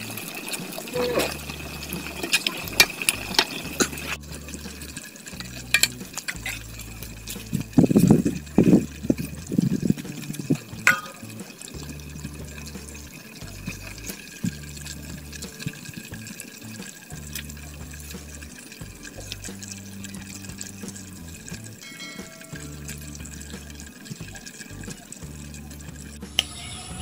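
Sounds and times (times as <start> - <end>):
oil sizzling and popping: 0.0 - 27.0.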